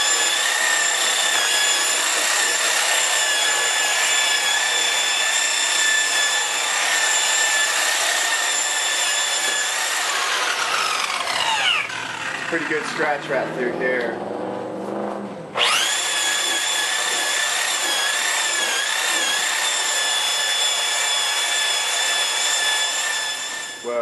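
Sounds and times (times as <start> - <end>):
power buffer whining: 0.0 - 13.0, 15.5 - 23.8.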